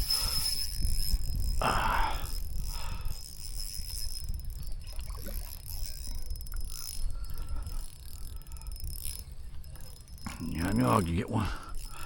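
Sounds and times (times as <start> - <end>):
wind rumble on microphone: 0.0 - 10.6
faint clicks and knocks from gear: 0.0 - 12.0.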